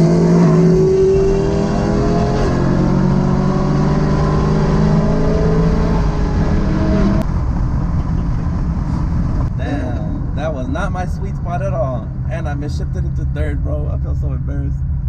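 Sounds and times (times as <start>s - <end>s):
car engine at redline: 0.0s - 15.0s
road and wind rumble: 0.0s - 15.0s.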